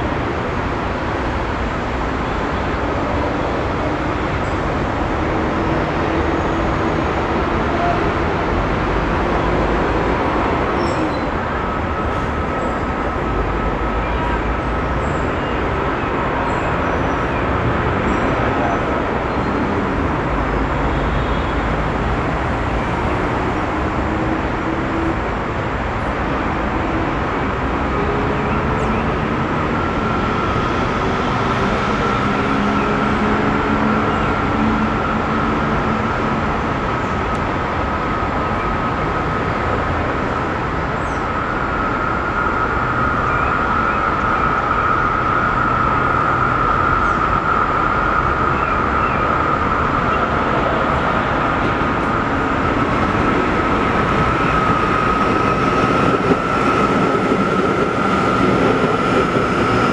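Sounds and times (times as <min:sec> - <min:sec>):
high-pitched train whine: 0:00.0 - 0:59.9
metro train rumble: 0:00.0 - 0:59.9.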